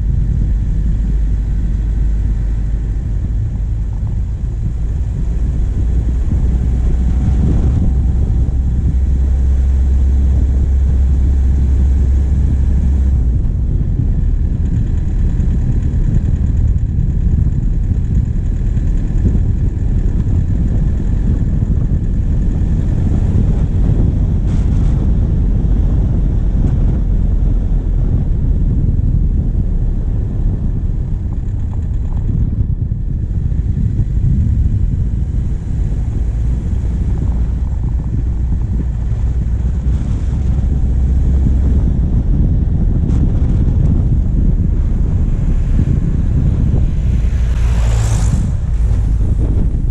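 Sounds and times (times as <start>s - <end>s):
diesel engine running: 0.0s - 49.9s
wind rumbling on microphone: 0.0s - 49.9s.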